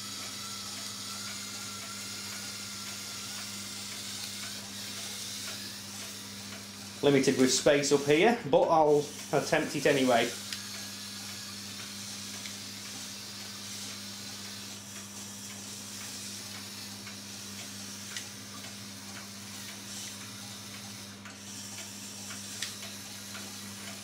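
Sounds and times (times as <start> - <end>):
small electric motor whirring: 0.0 - 24.0.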